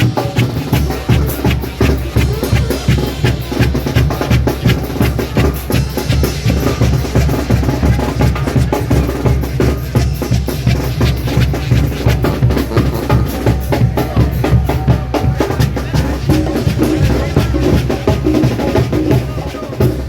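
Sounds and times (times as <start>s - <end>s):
brass band playing merengue: 0.0s - 20.0s
drum kit beat: 0.0s - 20.0s.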